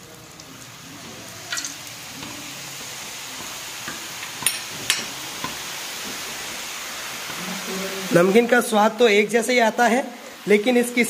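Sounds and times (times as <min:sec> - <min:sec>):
dough frying in hot oil sizzle: 0:00.0 - 0:11.0.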